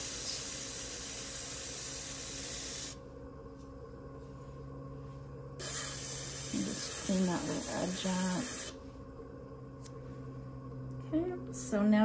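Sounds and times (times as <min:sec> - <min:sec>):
pottery wheel humming: 0:00.0 - 0:12.0.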